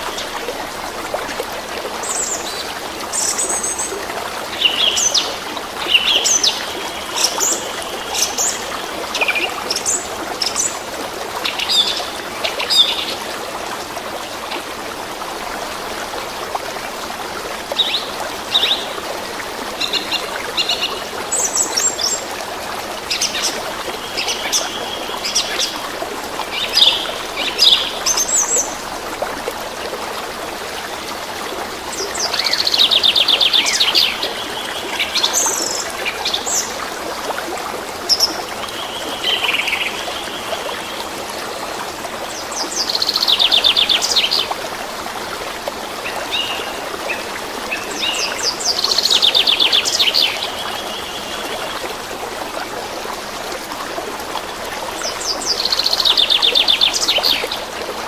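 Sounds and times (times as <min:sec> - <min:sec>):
brook running over rocks: 0:00.0 - 0:58.0.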